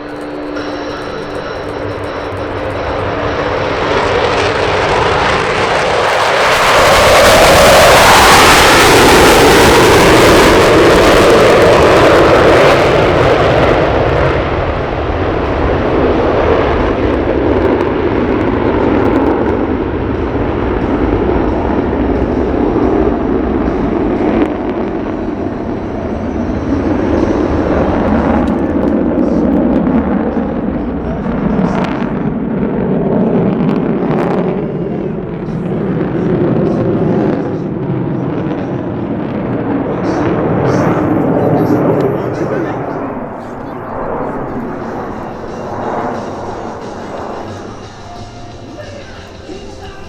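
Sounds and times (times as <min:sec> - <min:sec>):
jet engines roaring: 0:00.0 - 0:50.0.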